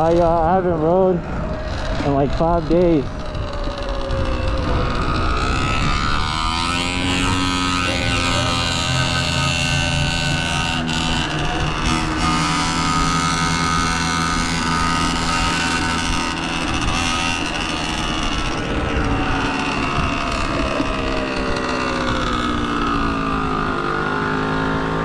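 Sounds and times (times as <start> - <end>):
dirt bike engine: 0.0 - 25.0
wind on microphone: 0.0 - 25.0.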